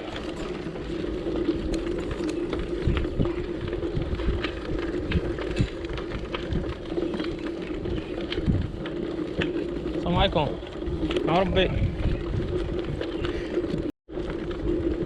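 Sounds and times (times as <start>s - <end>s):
bicycle riding hum: 0.0s - 15.0s.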